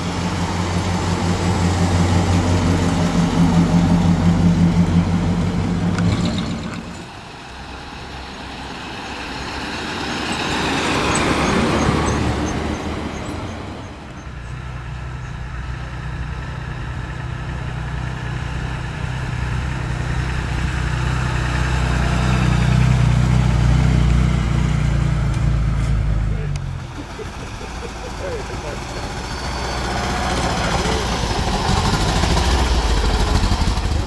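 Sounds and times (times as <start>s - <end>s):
car passing with tyre noise: 0.0s - 34.0s
low car engine approaching: 0.0s - 34.0s.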